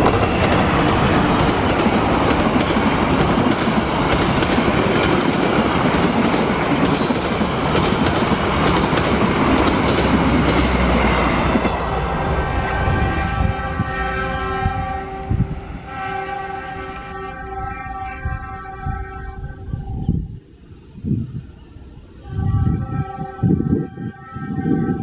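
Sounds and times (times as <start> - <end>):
diesel train passing: 0.0 - 25.0.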